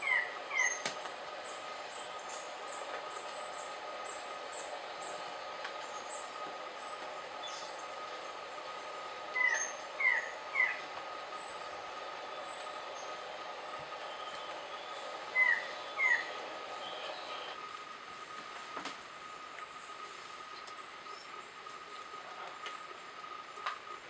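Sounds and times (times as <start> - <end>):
steady high-pitched hum: 0.0 - 24.0.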